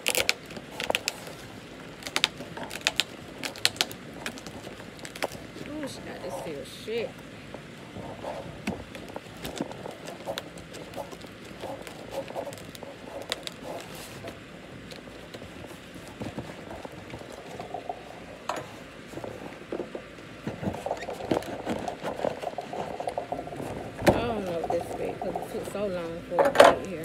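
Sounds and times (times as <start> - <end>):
packing paper rustling and crinkling: 0.0 - 26.2.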